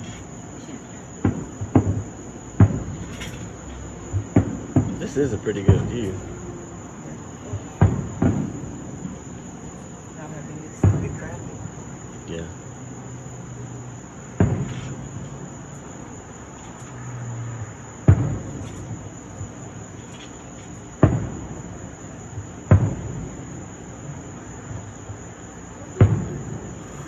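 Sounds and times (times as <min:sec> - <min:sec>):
crickets chirping: 0:00.0 - 0:27.0
fireworks booming: 0:00.0 - 0:27.0.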